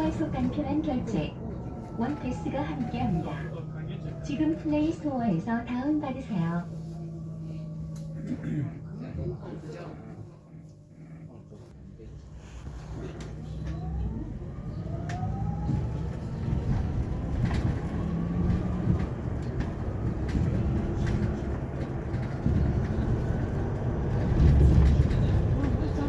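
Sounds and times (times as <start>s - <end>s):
bus body rattles and clicks: 0.0s - 9.9s, 12.2s - 26.0s
low road rumble: 0.0s - 26.0s.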